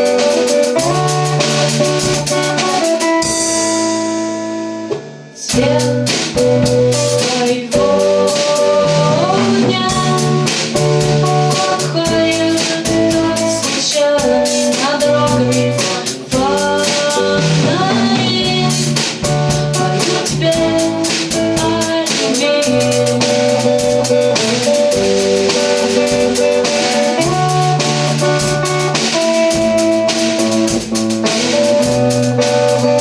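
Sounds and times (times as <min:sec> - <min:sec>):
guitar and drum kit: 0:00.0 - 0:33.0.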